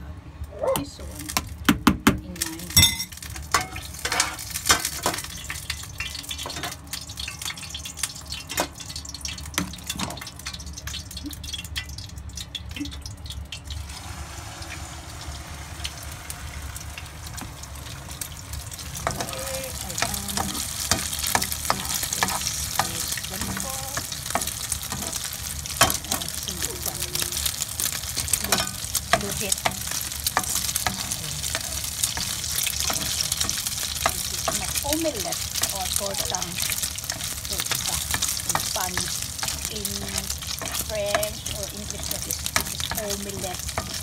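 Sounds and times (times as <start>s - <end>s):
omelette sizzling in a pan: 2.8s - 44.0s.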